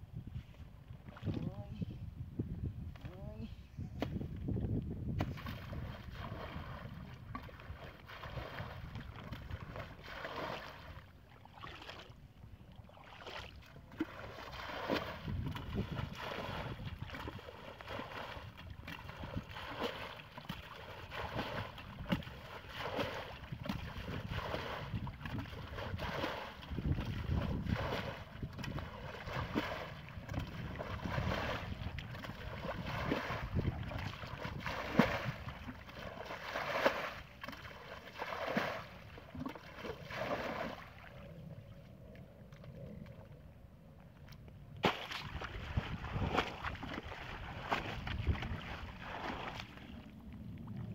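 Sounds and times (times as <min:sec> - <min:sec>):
bucket splashing ditch water: 0:05.1 - 0:41.2, 0:44.8 - 0:50.9.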